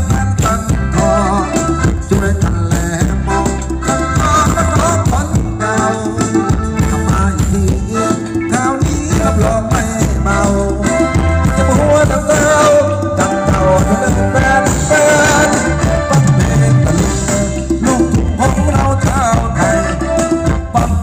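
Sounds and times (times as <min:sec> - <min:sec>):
live band dance music: 0:00.0 - 0:21.0.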